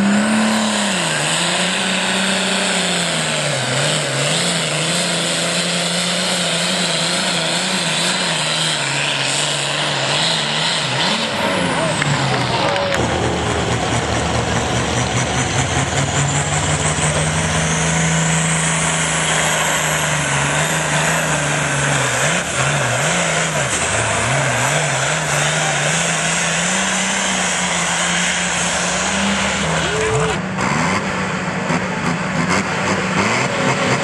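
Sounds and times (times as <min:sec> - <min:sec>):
tractor engine under heavy load: 0:00.0 - 0:34.0.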